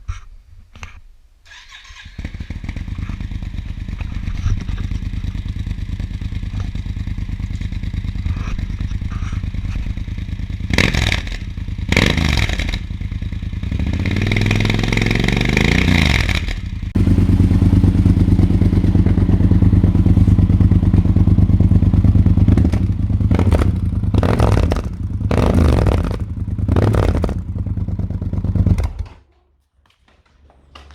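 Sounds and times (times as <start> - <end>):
motorcycle engine idling and revving: 1.6 - 29.2.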